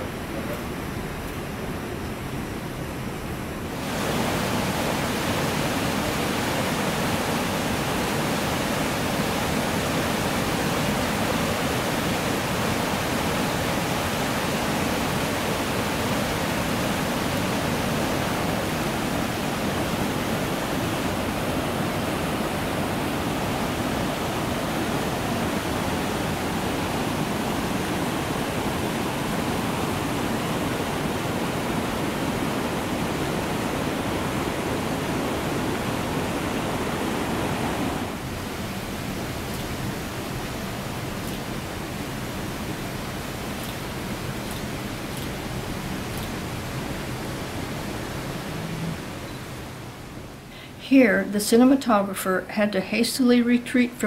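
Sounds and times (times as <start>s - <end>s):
creek water rushing over rocks: 3.6s - 50.5s.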